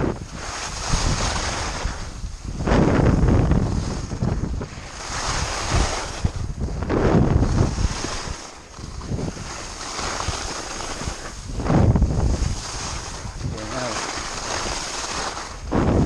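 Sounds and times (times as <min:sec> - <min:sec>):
skis scraping on snow: 0:00.0 - 0:16.0
wind on microphone: 0:00.0 - 0:16.0.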